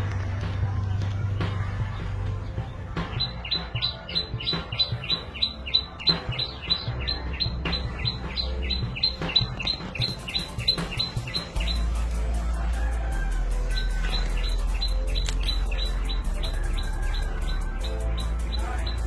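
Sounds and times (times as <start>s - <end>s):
background music with bass line: 0.0s - 19.0s
high bird-like chirps: 2.5s - 19.0s.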